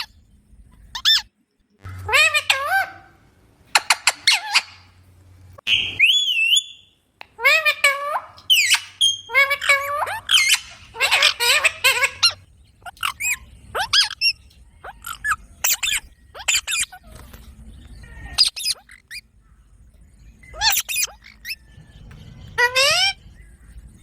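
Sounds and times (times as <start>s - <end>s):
parrot chirping and squawking: 0.9s - 5.0s, 5.6s - 19.3s, 20.4s - 23.4s.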